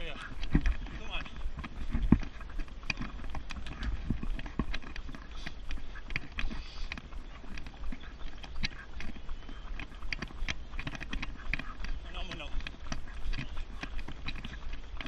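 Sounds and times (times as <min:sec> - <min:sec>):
footsteps slapping on pavement: 0:00.0 - 0:15.0
stroller clicking and rattling: 0:00.0 - 0:15.0.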